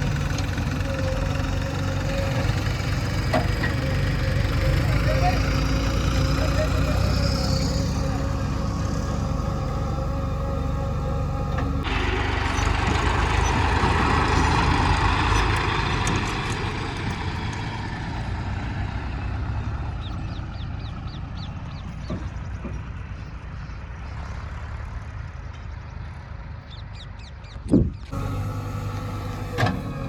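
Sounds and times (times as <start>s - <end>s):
diesel machinery engine rumbling: 0.0s - 24.1s, 28.0s - 30.0s.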